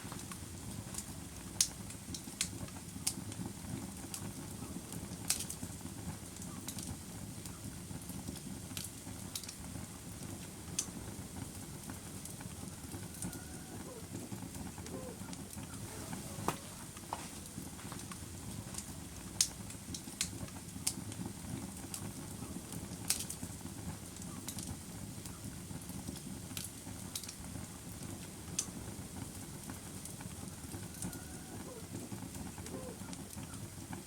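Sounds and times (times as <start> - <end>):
fire crackling and popping: 0.0 - 34.0
fire flames rushing: 0.0 - 34.0.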